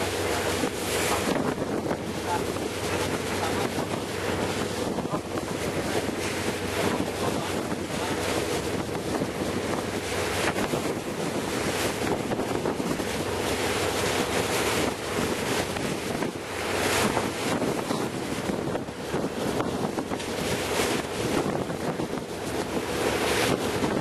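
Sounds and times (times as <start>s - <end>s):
boat engine hum: 0.0s - 24.0s
sea waves: 0.0s - 24.0s
wind on microphone: 0.0s - 24.0s.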